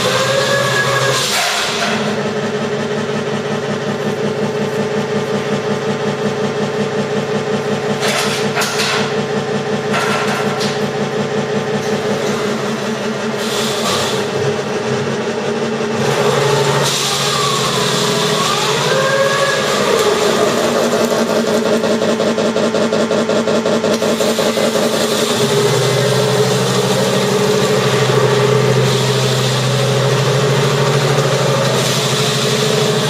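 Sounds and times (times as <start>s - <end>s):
simulated tank engine idling: 0.0s - 33.0s.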